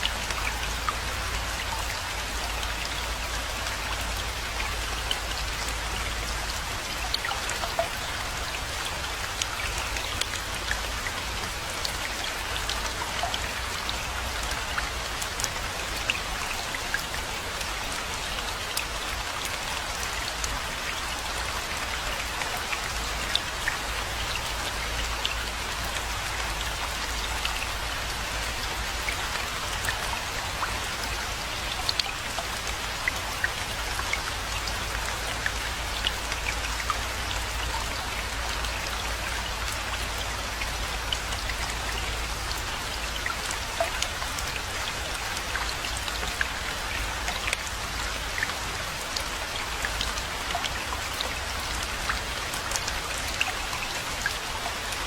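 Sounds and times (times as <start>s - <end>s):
raindrops ticking: 0.0s - 55.0s.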